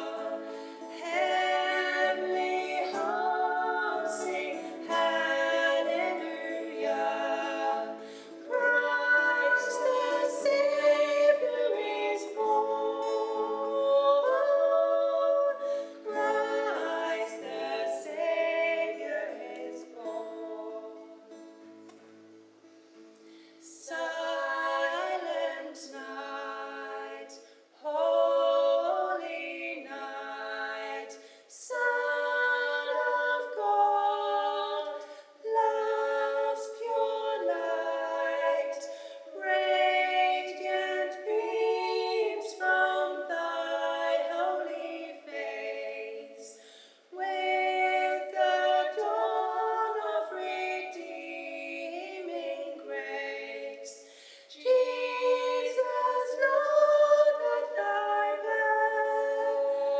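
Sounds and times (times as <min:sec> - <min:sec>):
women singing in harmony: 0:00.0 - 0:21.8, 0:23.6 - 0:59.9.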